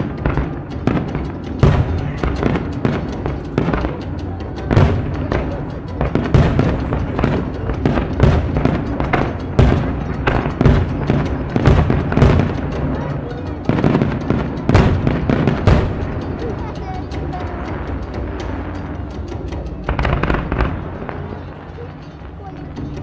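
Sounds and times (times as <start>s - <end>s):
fireworks bursting with booms: 0.0s - 19.1s, 19.7s - 21.7s
fireworks crackle: 0.0s - 23.0s
music: 0.0s - 23.0s.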